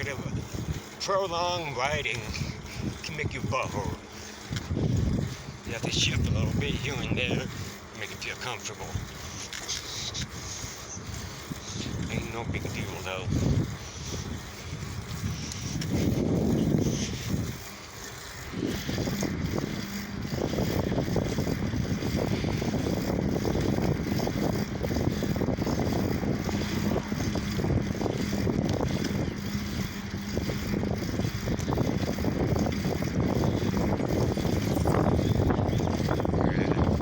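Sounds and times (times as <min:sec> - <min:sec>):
bicycle road noise rushing: 0:00.0 - 0:37.0
steady low hum: 0:00.0 - 0:37.0.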